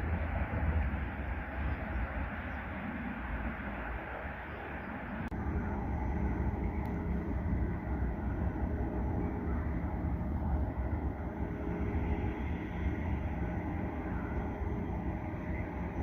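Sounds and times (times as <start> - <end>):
faint high whine: 0.0 - 16.0
train rumbling: 0.0 - 16.0.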